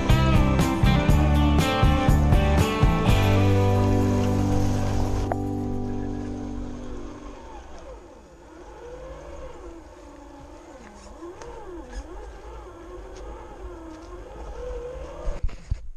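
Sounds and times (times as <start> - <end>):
electric motor and gears whining: 0.0 - 15.8.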